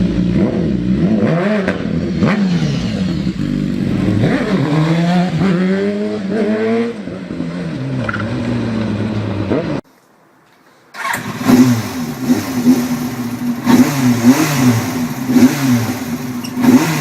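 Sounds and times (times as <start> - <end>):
motorcycle engine revving: 0.0 - 9.8, 11.0 - 17.0.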